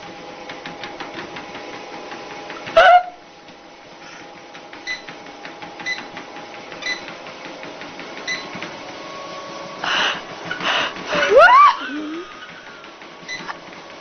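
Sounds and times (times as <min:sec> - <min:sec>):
treadmill humming: 0:00.0 - 0:14.0.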